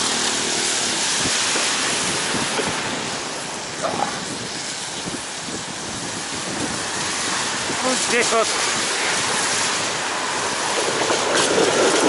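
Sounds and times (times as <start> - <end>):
bicycle tyres on wet asphalt: 0.0 - 12.0
wind on microphone: 0.8 - 12.0.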